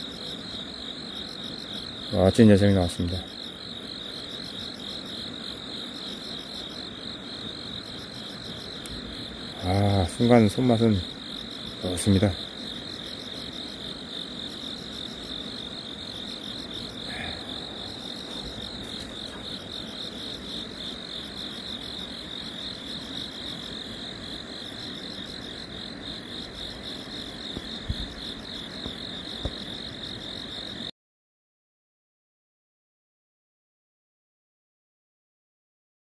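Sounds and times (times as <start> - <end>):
night insects trilling: 0.0 - 30.9.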